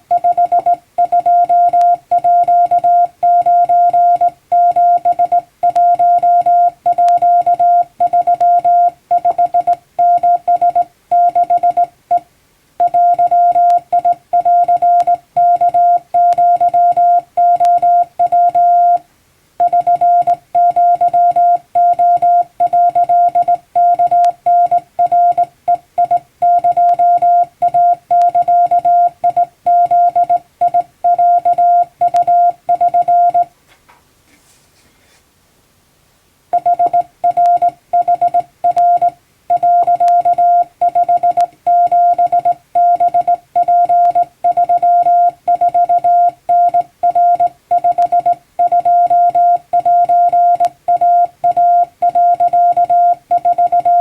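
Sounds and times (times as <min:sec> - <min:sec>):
morse code beeps: 0:00.1 - 0:12.2, 0:12.8 - 0:19.0, 0:19.6 - 0:33.5, 0:36.6 - 0:54.0.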